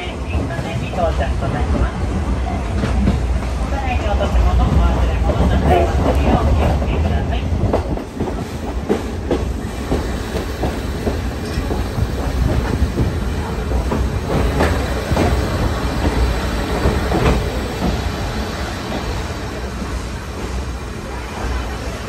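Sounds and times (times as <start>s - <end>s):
train coach rumbling on track: 0.0s - 22.0s.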